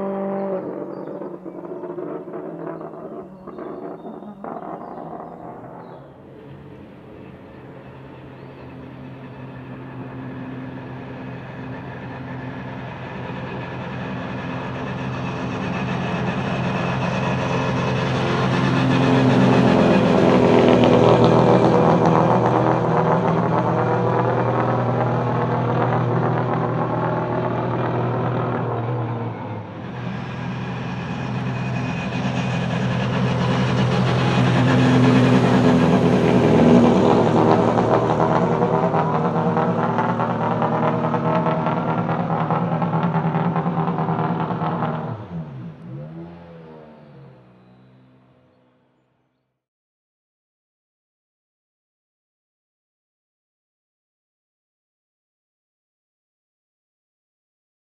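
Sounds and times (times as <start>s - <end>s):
racing car engine passing at speed: 0.0s - 48.8s.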